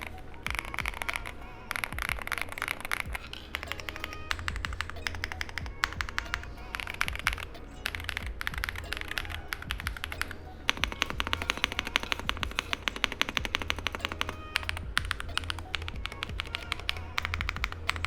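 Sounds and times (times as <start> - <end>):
fast typing on mechanical keyboard: 0.0 - 18.0.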